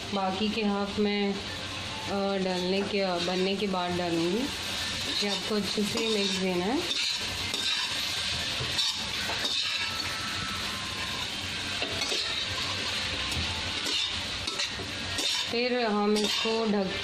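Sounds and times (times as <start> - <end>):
vegetables sizzling in oil: 0.0 - 17.0
spatula scraping pan: 2.4 - 17.0.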